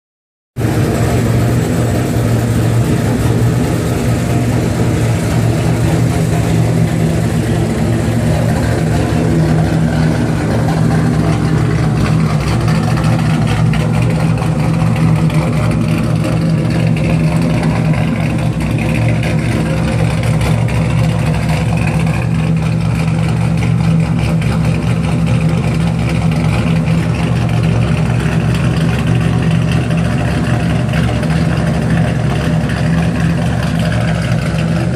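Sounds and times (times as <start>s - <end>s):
car engine and loud exhaust droning: 0.6s - 34.9s.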